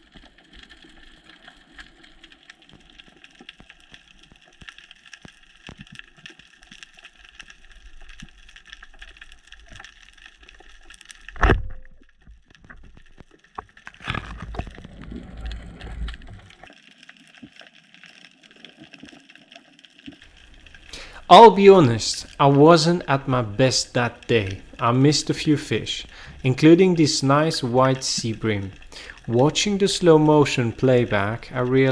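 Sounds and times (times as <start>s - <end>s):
underwater crackling: 0.1s - 31.9s.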